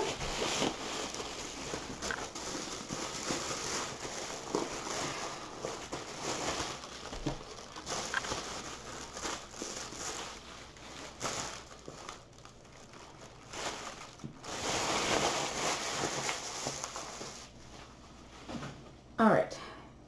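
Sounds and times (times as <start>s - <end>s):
plastic packaging crinkling: 0.0s - 17.8s.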